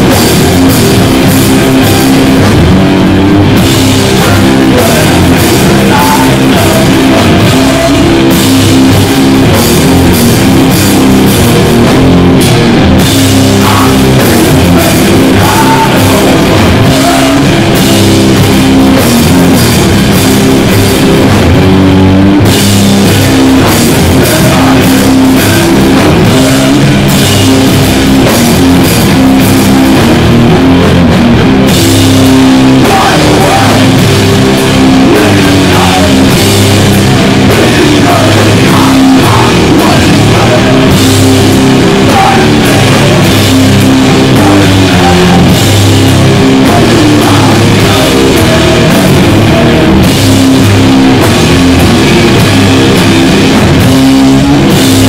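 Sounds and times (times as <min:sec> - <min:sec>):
bass riffing: 0:00.0 - 0:55.0
drums with crashing cymbals: 0:00.0 - 0:55.0
fuzzed electric guitar riffing: 0:00.0 - 0:55.0.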